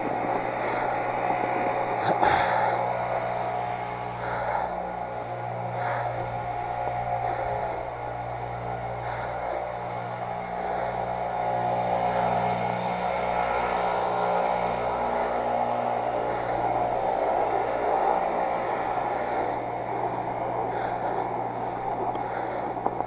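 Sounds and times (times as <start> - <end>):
bike tires rolling through snow: 0.0 - 23.0
steady low hum: 0.0 - 23.0.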